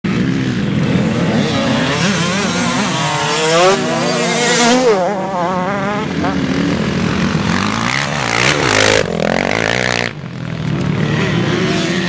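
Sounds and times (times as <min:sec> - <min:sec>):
motorcycle engine revving: 0:00.1 - 0:12.0.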